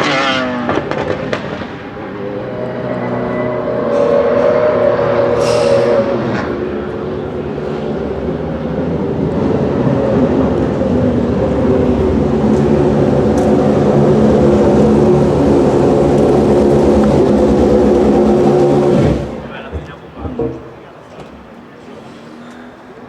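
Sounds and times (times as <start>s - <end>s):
race car engine running: 0.0s - 19.6s.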